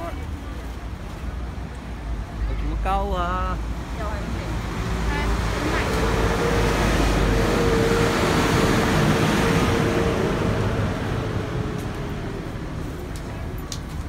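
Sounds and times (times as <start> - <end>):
bus rumbling beside pavement: 0.0 - 14.0.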